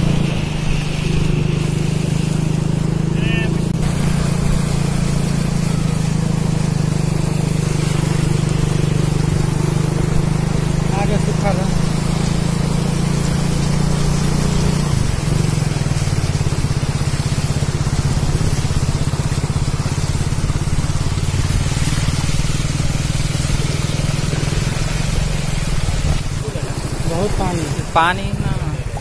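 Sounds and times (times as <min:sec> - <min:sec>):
motorcycle engine running: 0:00.0 - 0:29.0
riding through shallow water: 0:00.0 - 0:29.0.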